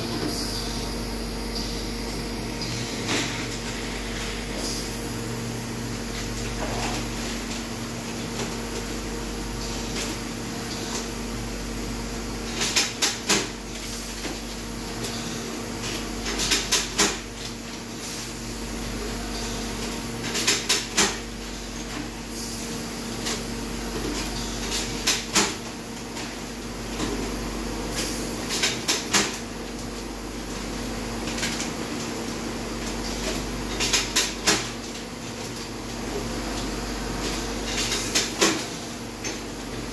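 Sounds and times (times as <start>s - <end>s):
steam sterilizer humming: 0.0s - 39.9s.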